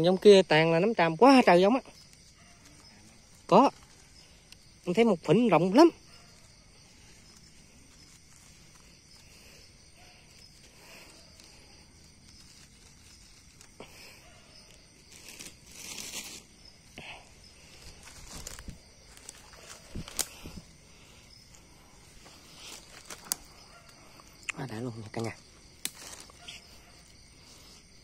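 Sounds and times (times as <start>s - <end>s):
high insect chorus: 0.0s - 28.0s
dry leaves rustling and crackling: 1.0s - 28.0s.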